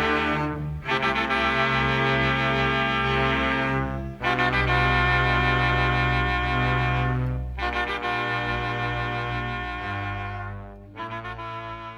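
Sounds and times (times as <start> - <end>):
held orchestral chords: 0.0 - 11.9.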